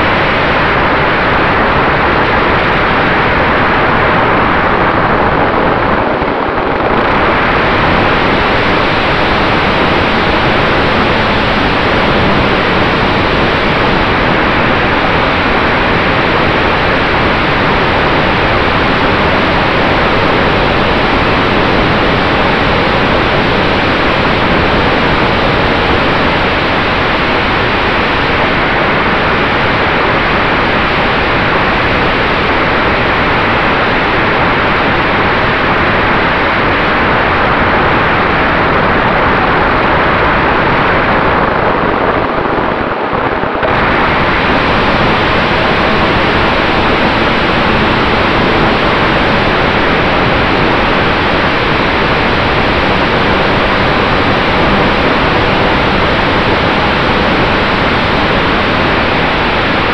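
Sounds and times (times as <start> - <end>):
wind rushing over camera: 0.0 - 59.9.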